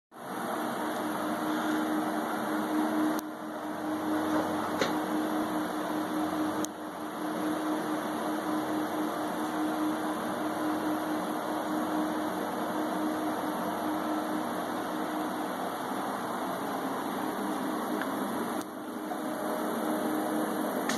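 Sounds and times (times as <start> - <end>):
air-handling equipment hum: 0.1 - 20.9
low steady tone: 0.2 - 20.9.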